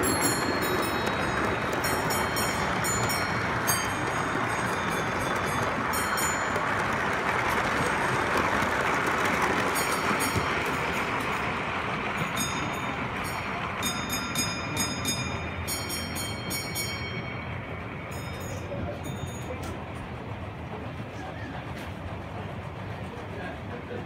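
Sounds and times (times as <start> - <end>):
model train wheels rumbling: 0.0 - 24.0.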